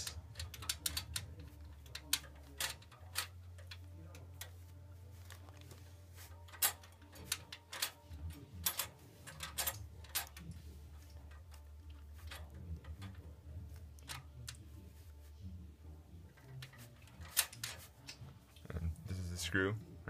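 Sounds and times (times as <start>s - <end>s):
metal parts handled: 0.0s - 14.7s, 16.3s - 18.2s.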